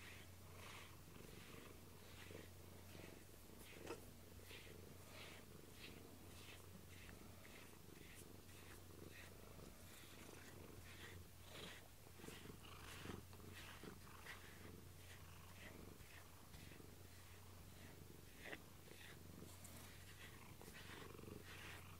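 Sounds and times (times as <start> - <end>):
brush rustling through fur: 0.0 - 21.9
cat purring: 0.0 - 21.9.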